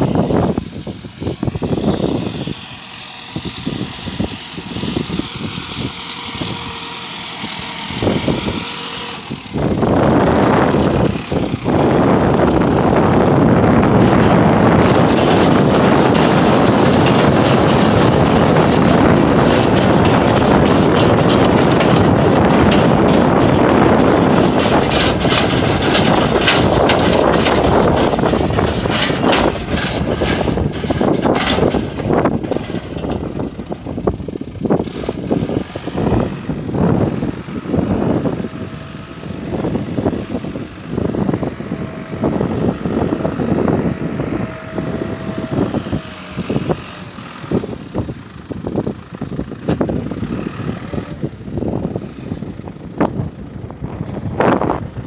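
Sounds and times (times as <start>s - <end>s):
tractor diesel engine running: 0.0s - 55.0s
stone picker working: 1.4s - 55.0s.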